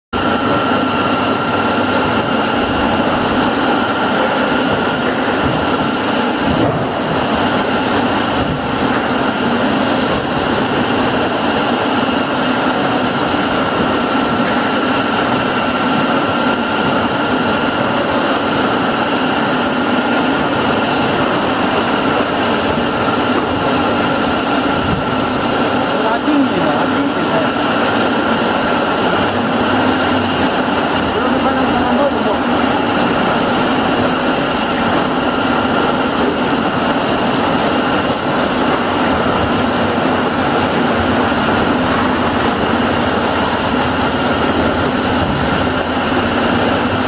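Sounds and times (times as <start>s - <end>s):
filling machine drone and whine: 0.2s - 47.0s.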